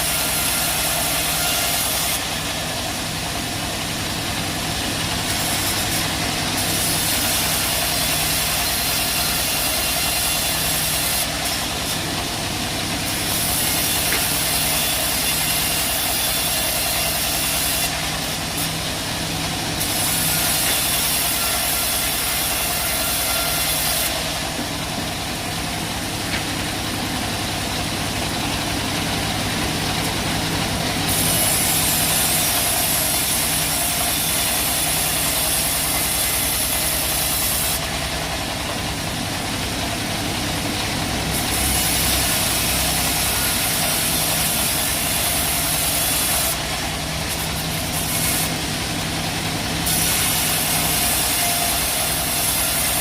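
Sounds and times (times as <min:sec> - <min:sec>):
sawmill engine hum: 0:00.0 - 0:53.0.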